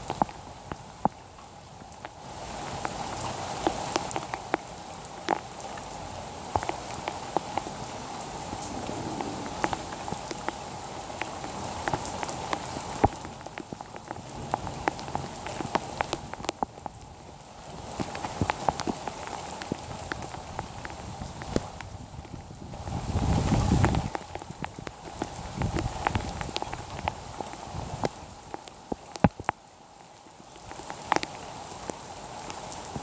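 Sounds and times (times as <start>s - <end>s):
heavy rain falling: 0.0s - 33.0s
raindrops hitting surfaces: 0.0s - 33.0s.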